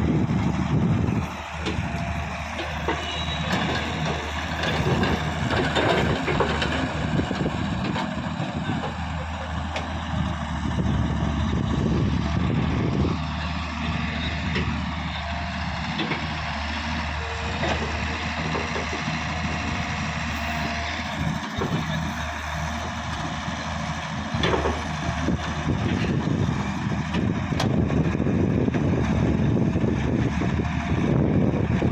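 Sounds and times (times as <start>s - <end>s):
diesel engine droning: 0.0s - 31.9s.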